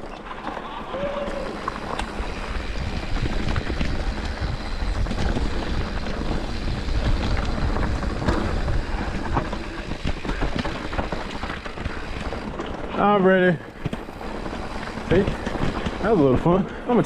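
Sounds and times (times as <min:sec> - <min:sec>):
bike rattling over rocks: 0:00.0 - 0:17.0
bike tyres rolling: 0:00.0 - 0:17.0
wind buffeting microphone: 0:00.8 - 0:17.0.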